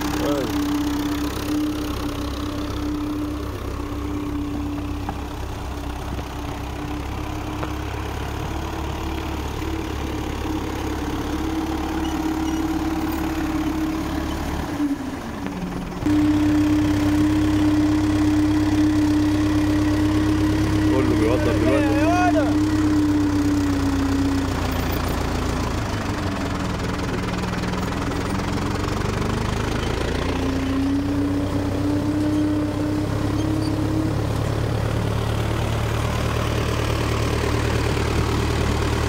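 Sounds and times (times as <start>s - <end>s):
diesel tractor engine under load: 0.0s - 39.0s.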